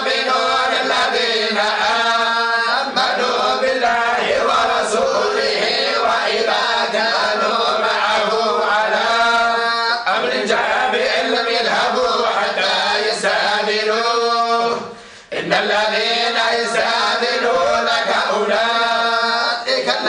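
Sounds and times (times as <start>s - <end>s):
group of voices chanting in unison: 0.0s - 20.0s.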